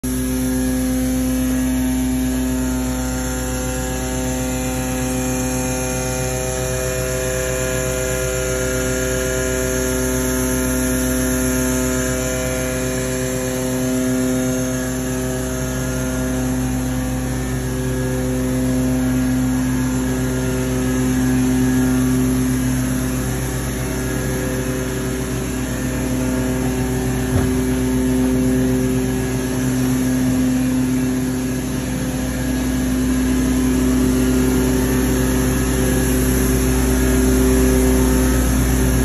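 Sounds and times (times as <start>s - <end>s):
machine humming: 0.1s - 39.0s.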